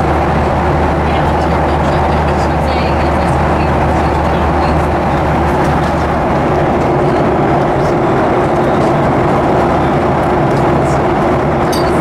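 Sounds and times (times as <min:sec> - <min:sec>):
constant low hum: 0:00.0 - 0:12.0
jet engine drone: 0:00.0 - 0:12.0
rushing airflow: 0:00.0 - 0:12.0.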